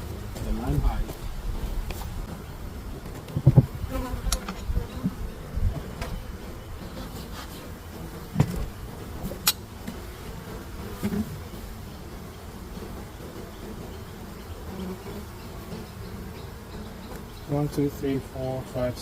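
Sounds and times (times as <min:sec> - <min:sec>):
bees buzzing: 0:00.0 - 0:19.0
hive parts knocking: 0:00.1 - 0:07.2, 0:07.8 - 0:17.9.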